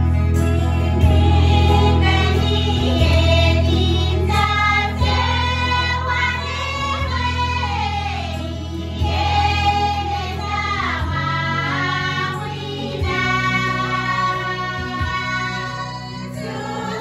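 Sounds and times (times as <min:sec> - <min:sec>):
women singing as a choir: 0:00.7 - 0:17.0.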